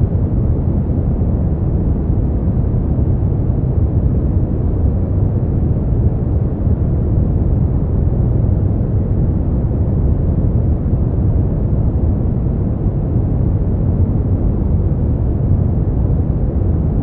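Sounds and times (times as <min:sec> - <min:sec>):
white noise with low rumble: 0:00.0 - 0:17.0.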